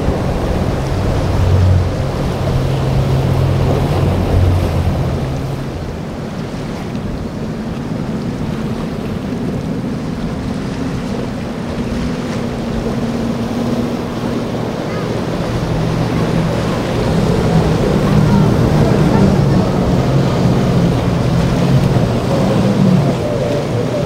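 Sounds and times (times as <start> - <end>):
boat engine running: 0.0 - 24.0
deep engine hum: 0.0 - 24.0
surf breaking: 0.0 - 24.0
wind noise on microphone: 0.0 - 24.0.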